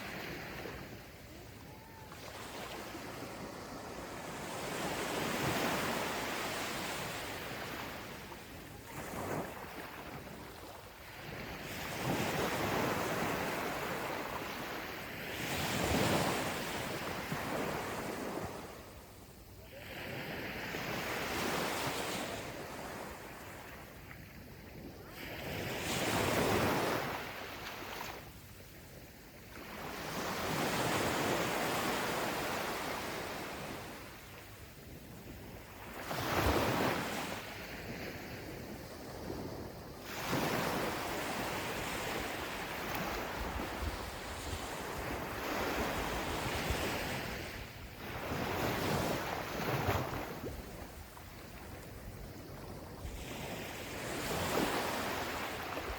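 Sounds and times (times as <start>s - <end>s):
waves breaking on sand: 0.0s - 18.8s, 29.5s - 55.9s.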